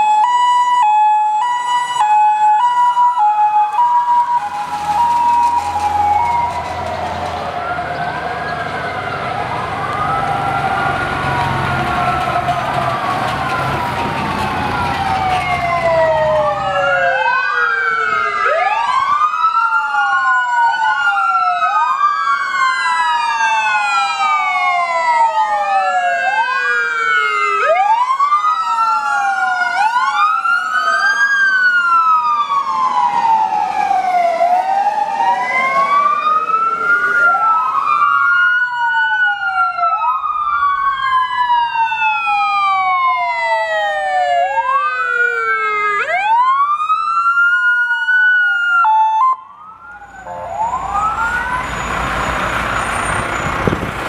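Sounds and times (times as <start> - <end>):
emergency sirens wailing: 0.0 - 54.0.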